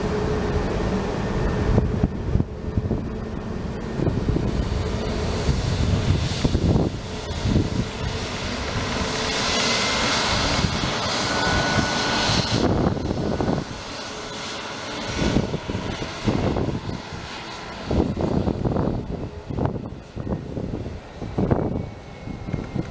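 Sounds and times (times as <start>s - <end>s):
jet engines hissing: 0.0s - 22.9s
wind buffeting microphone: 0.0s - 22.9s.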